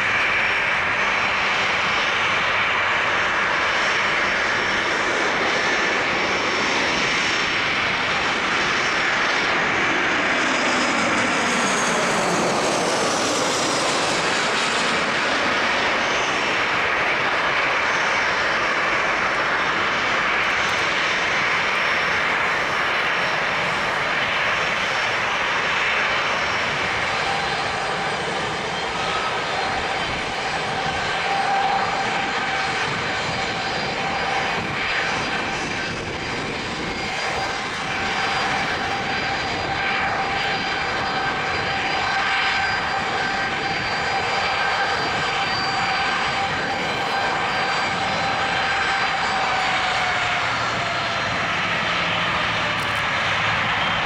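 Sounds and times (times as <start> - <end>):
jet engines whining at taxi power: 0.0 - 54.0.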